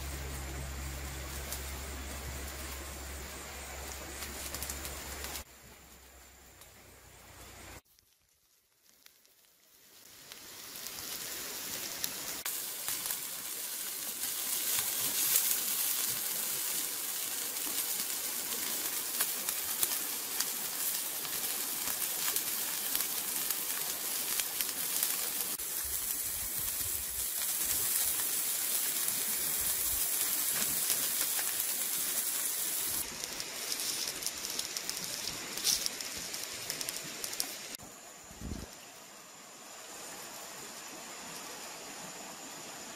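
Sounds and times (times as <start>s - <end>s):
grasshoppers sizzling over fire: 0.0s - 42.9s.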